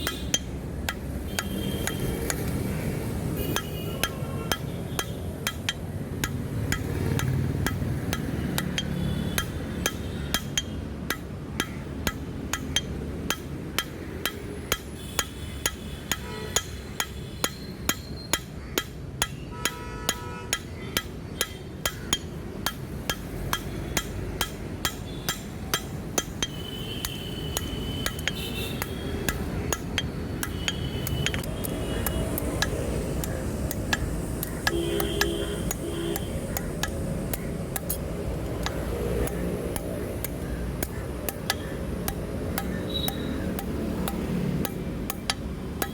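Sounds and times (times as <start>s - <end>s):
hammer striking steel on anvil: 3.5s - 45.9s.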